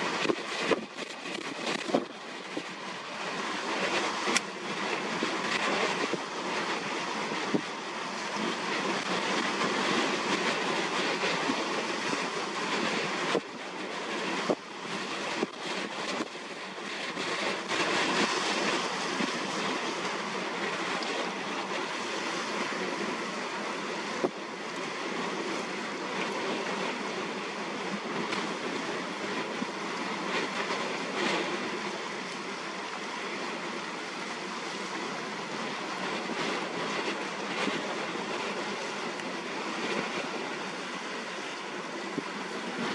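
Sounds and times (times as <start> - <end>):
choppy sea: 0.0 - 42.9.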